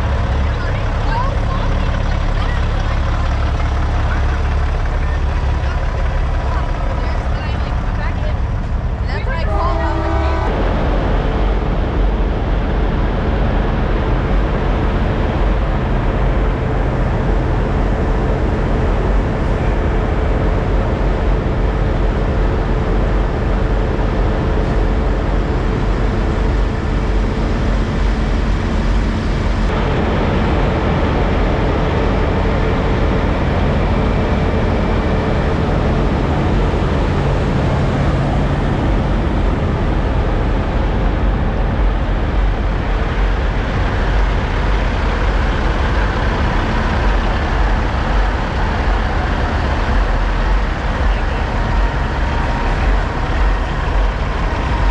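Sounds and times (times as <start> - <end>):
diesel truck engines idling: 0.0 - 54.9.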